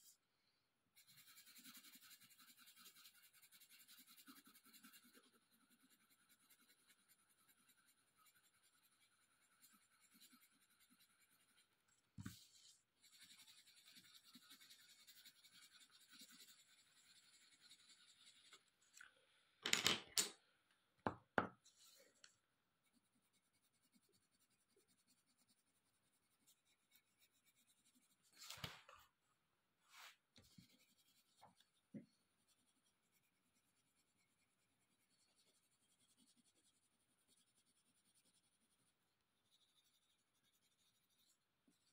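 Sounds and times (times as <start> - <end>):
pencil scratching on paper: 1.0 - 18.8, 22.8 - 28.8, 29.9 - 41.9.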